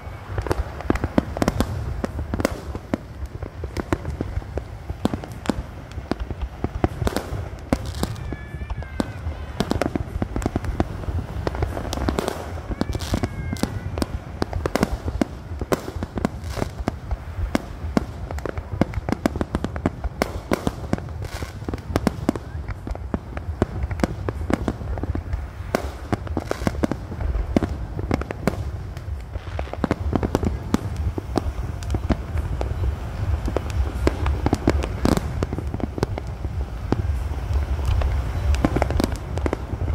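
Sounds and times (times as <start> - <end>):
fireworks bursting bangs: 0.0 - 39.9
low rumble: 0.0 - 39.9.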